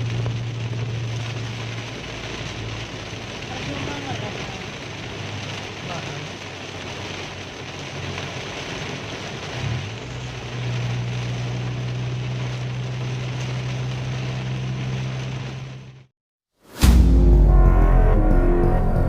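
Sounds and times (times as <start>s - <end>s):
car engine drone: 0.0s - 16.1s, 16.7s - 19.0s
tyre rain and wind noise: 0.0s - 16.1s.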